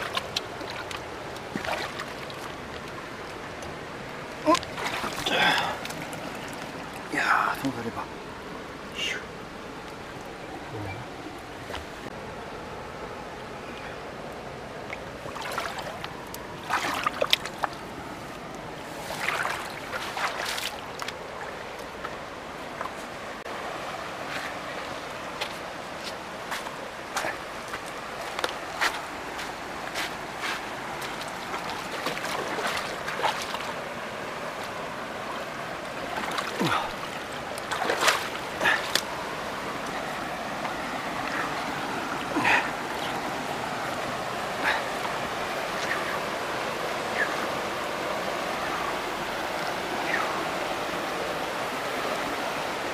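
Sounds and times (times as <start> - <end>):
stream water lapping against rocks: 0.0 - 52.9.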